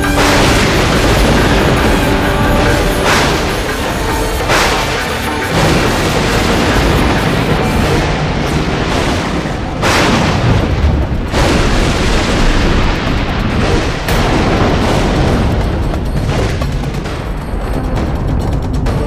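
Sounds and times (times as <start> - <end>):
sudden loud hits: 0.0 - 17.1
dramatic soundtrack music: 0.0 - 19.0.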